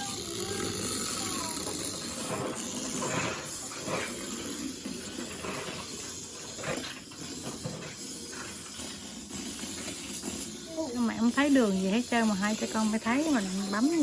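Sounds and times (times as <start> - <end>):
small rc cars whirring: 0.0 - 14.0.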